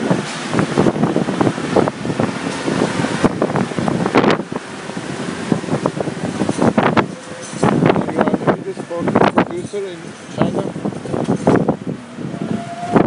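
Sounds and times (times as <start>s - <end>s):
steady background rumble: 0.0s - 13.0s
wind buffeting microphone: 0.0s - 13.0s.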